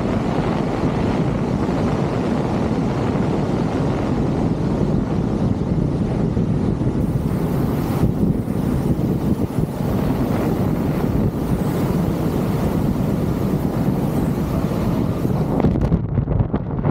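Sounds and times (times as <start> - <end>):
wind rushing over microphone: 0.0 - 16.9.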